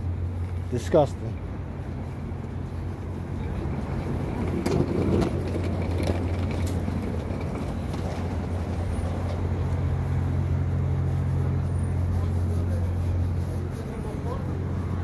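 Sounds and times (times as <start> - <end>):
traffic engine hum: 0.0 - 15.0.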